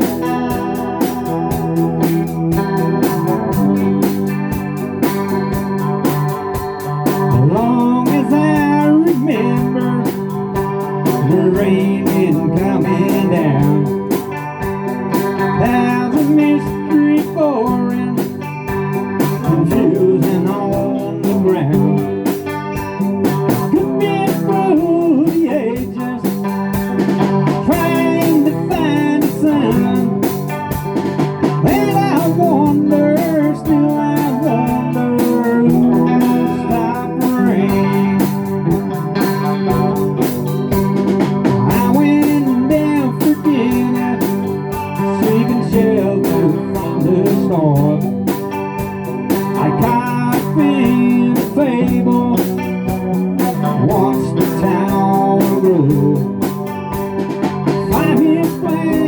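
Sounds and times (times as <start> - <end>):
person singing: 0.0 - 40.8, 41.4 - 59.0
rock band playing: 0.0 - 59.0.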